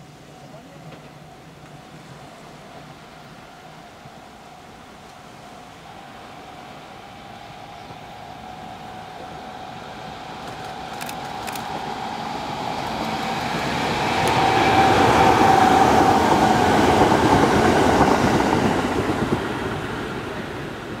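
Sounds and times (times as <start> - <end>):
electric train passing with whine: 0.0 - 21.0.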